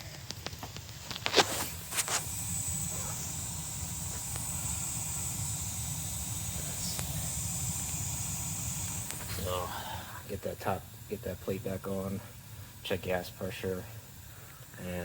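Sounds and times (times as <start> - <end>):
gas burner low rumble: 0.0 - 15.0
high hiss: 0.0 - 15.0.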